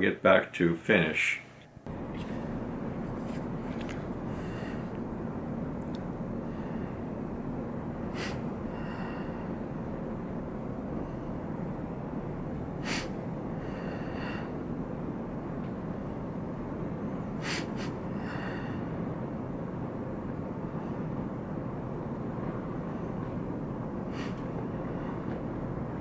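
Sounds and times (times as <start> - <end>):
room hiss and hum: 0.0 - 26.0.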